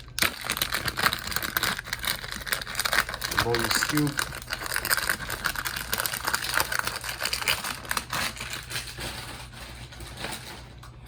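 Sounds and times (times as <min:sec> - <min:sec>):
packaging crinkling and clicking: 0:00.0 - 0:11.0.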